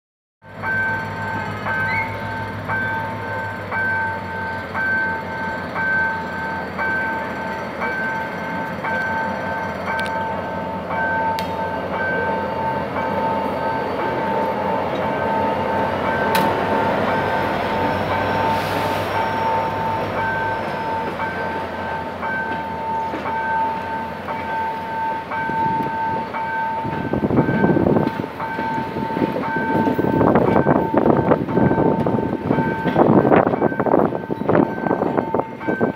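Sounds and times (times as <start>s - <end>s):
diesel locomotive rumble: 0.4s - 35.9s
level crossing warning signal: 0.5s - 35.9s
train wheels clattering: 0.6s - 35.9s.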